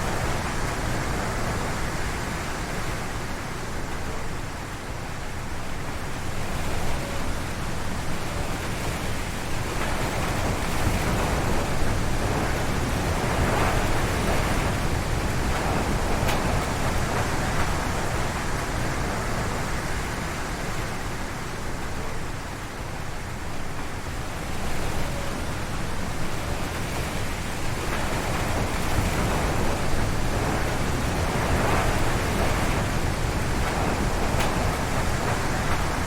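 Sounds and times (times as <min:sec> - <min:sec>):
wind gusting through trees: 0:00.0 - 0:36.0.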